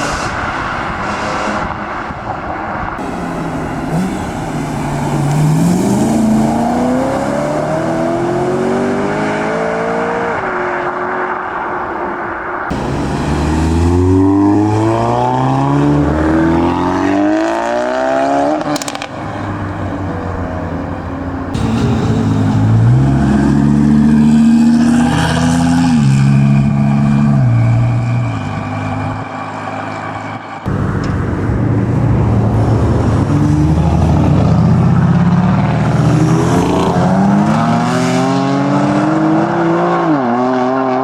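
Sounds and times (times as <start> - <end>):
car engines accelerating: 0.0 - 41.0.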